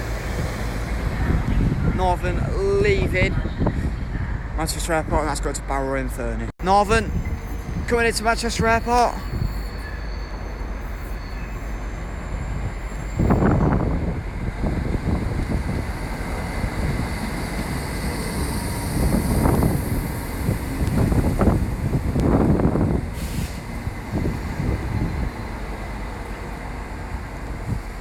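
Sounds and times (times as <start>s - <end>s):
train rumbling into station: 0.0s - 28.0s.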